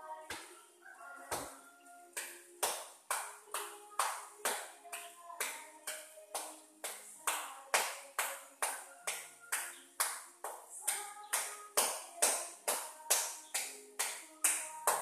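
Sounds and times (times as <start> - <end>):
hands clapping rhythmically: 0.2 - 0.6, 1.3 - 15.0.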